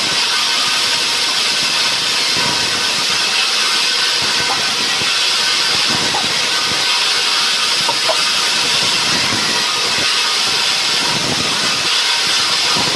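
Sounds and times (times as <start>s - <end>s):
machinery running: 0.0s - 12.9s
saw cutting through log: 0.0s - 12.9s.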